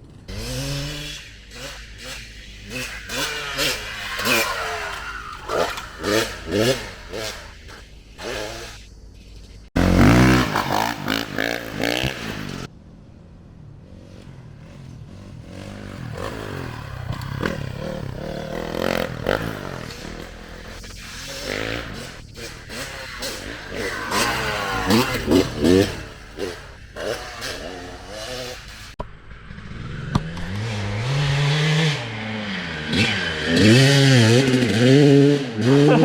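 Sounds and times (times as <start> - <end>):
dirt bike engine revving: 0.0 - 12.7, 13.8 - 36.0.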